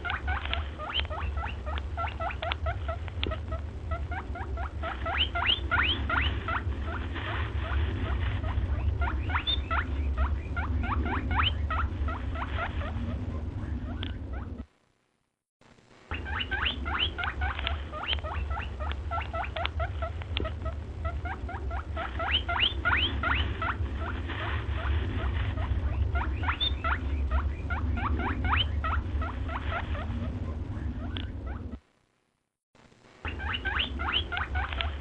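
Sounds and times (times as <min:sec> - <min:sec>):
small birds chirping: 0:00.0 - 0:14.6, 0:16.1 - 0:31.8, 0:33.3 - 0:35.0
steady low rumble: 0:00.0 - 0:32.2, 0:32.8 - 0:35.0.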